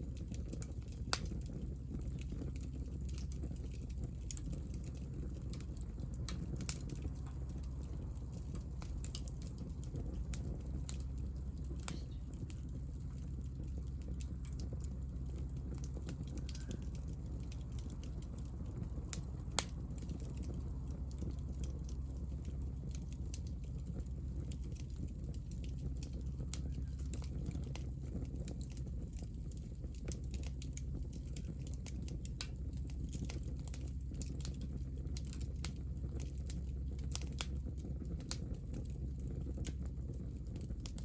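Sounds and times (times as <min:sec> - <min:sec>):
fire rumbling with crackles: 0:00.0 - 0:41.0.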